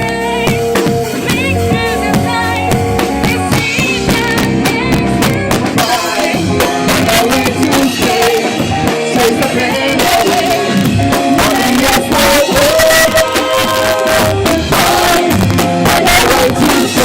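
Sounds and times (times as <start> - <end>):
bending melodic lead line: 0.0 - 17.0
live rock band: 0.0 - 17.0.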